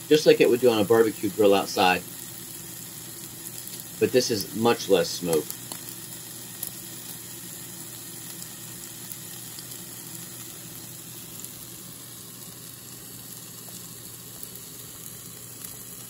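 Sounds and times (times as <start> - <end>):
grease crackling: 0.0 - 16.0
steaks sizzling on a grill: 0.0 - 16.0.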